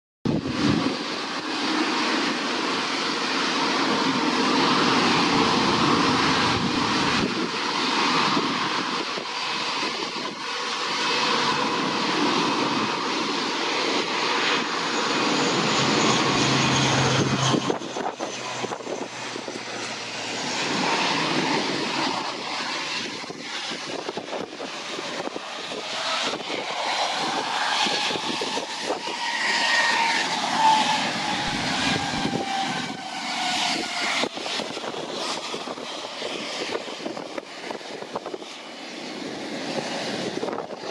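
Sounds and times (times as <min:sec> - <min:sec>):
turboprop aircraft engines: 0:00.3 - 0:40.9.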